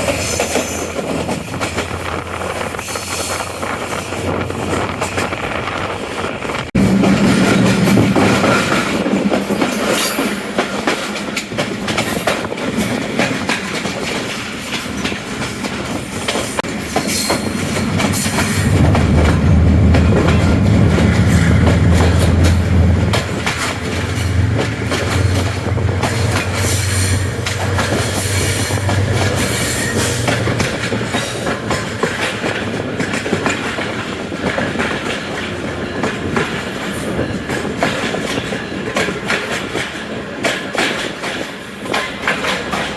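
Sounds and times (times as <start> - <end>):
deep train rumble: 0.0 - 42.9
train wheels clattering on rails: 0.0 - 42.9.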